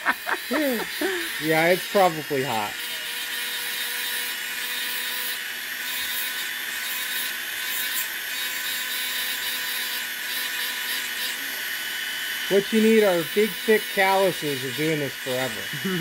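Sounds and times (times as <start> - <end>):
sanding disc grinding metal: 0.0 - 11.4, 12.4 - 15.8
rotary tool motor whine: 0.0 - 16.0.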